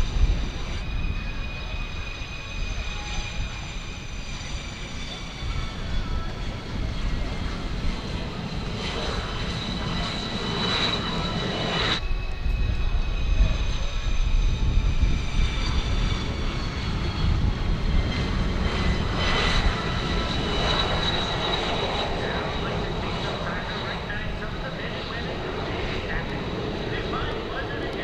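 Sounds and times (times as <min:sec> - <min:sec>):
jet engine whining and rumbling: 0:00.0 - 0:28.0.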